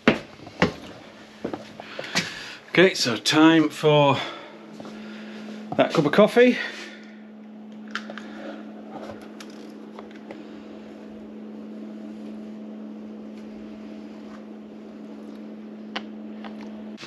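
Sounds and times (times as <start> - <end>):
coffee machine humming: 0.0 - 17.0.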